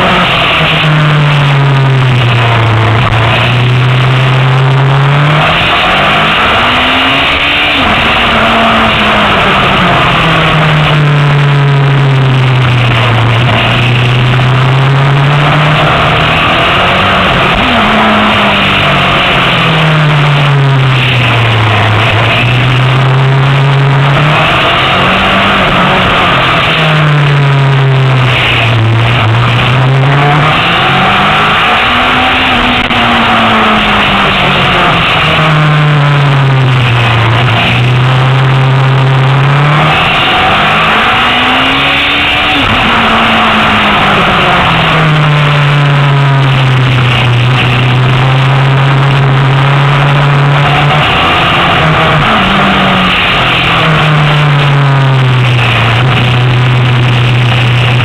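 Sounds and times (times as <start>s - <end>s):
sport bike engine at speed: 0.0s - 58.0s.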